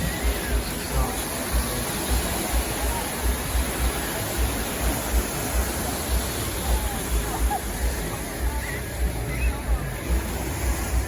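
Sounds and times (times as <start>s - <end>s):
surf rushing: 0.0s - 11.0s.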